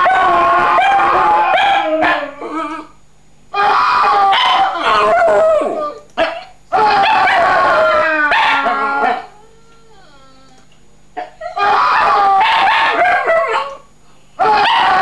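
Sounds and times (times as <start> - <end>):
dog howling: 0.0 - 3.0, 3.6 - 13.8, 14.4 - 15.0.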